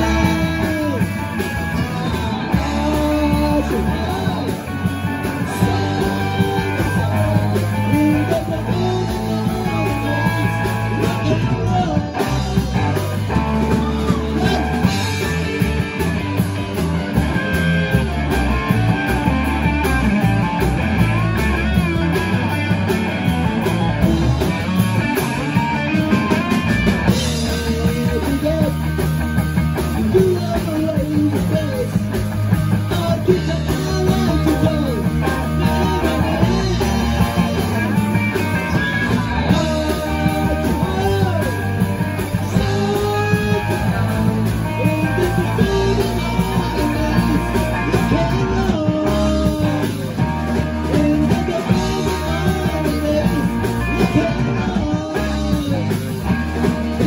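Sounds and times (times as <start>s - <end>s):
drums: 0.0s - 57.0s
electric bass: 0.0s - 57.0s
electric guitars: 0.0s - 57.0s
person singing: 0.0s - 57.0s.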